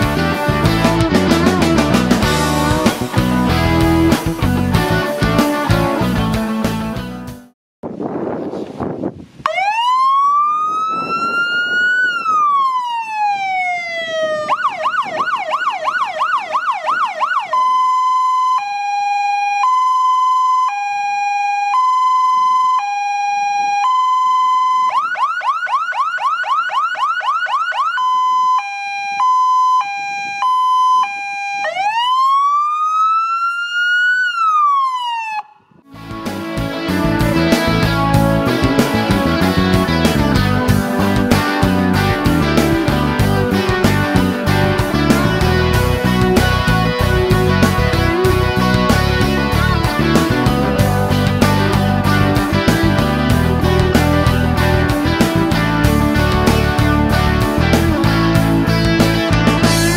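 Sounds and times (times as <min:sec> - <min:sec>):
fire engine siren: 0:09.4 - 0:59.9.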